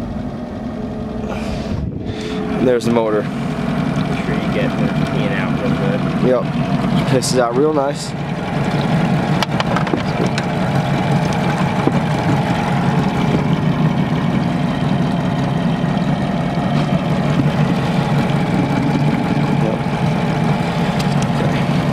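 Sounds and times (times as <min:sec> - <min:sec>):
outboard motor running: 0:00.0 - 0:21.9.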